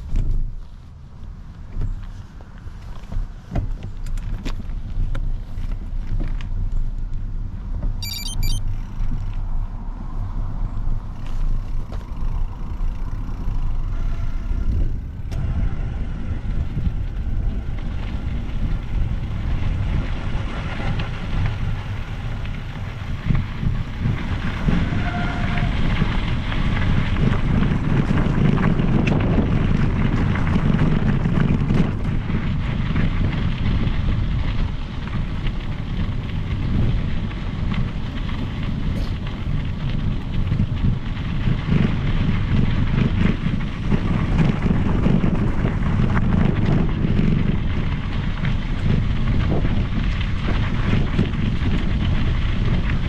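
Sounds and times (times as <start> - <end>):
bicycle rolling on trail: 0.0 - 53.0
wind on microphone: 6.6 - 53.0.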